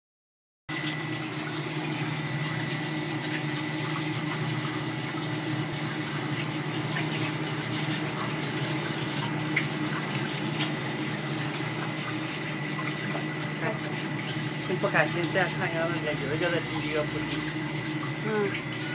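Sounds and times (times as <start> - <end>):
pump humming and whining: 0.7 - 18.9.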